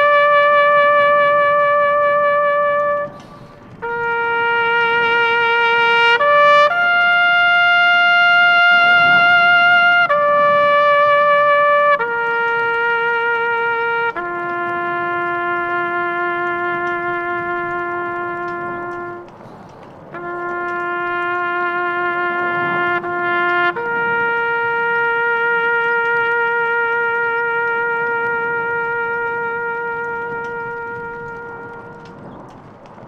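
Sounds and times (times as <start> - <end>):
trumpet long-held notes: 0.0 - 32.7.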